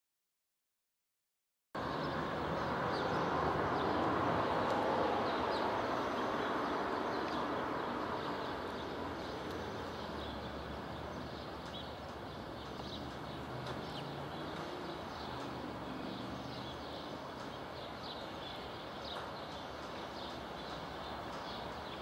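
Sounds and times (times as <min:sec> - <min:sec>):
outdoor ambience rush: 0:01.8 - 0:22.0.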